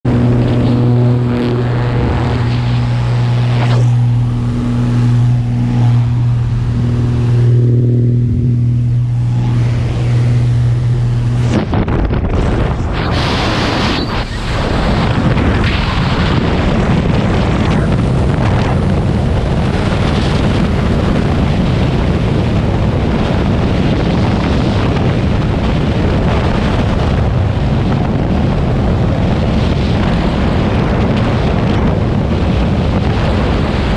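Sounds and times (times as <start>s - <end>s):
plane engine and propeller drone: 0.0s - 33.9s
wind rushing over microphone: 0.0s - 33.9s.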